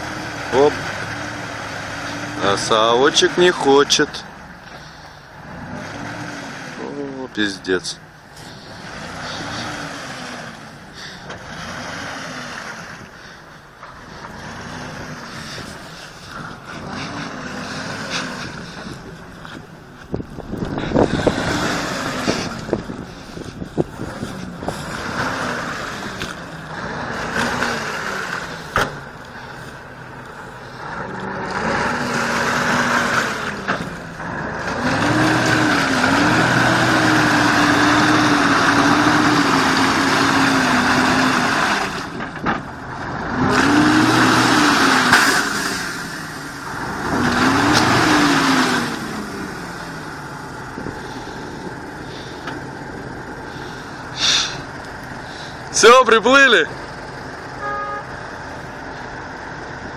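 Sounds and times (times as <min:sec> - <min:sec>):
truck diesel engine revving: 0:00.0 - 0:59.9.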